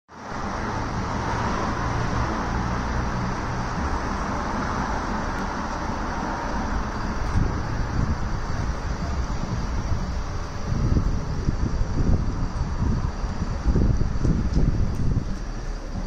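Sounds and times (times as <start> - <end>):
cars driving past: 0.1 - 16.0.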